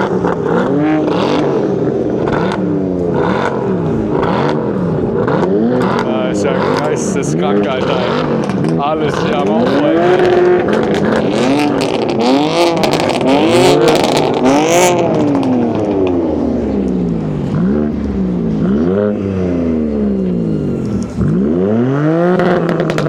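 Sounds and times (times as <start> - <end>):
car engine revving with crackles: 0.0 - 23.0.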